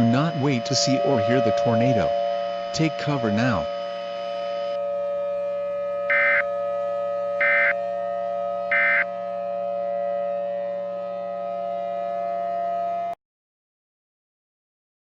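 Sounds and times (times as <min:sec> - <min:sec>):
droning background tone: 0:00.0 - 0:13.2.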